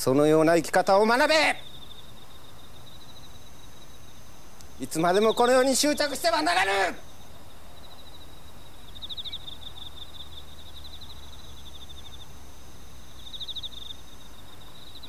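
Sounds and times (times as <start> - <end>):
insects trilling: 0.0 - 15.0
rapid insect chirps: 0.0 - 15.0.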